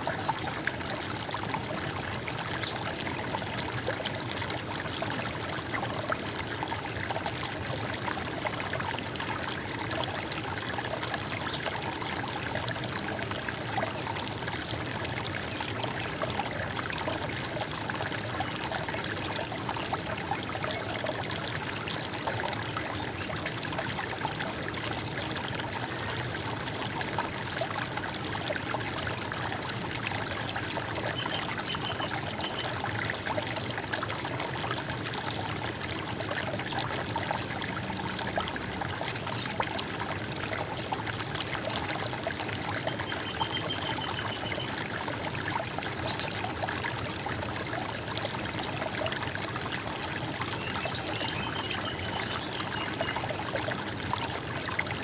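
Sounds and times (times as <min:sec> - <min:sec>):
water gurgling and trickling: 0:00.0 - 0:55.0.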